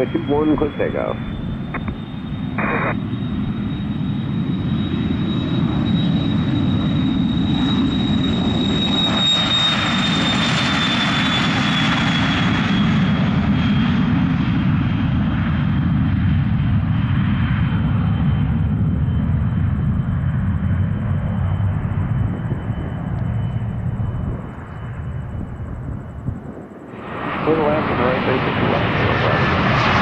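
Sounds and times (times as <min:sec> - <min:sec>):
jet engines roaring on takeoff: 0:00.0 - 0:30.0.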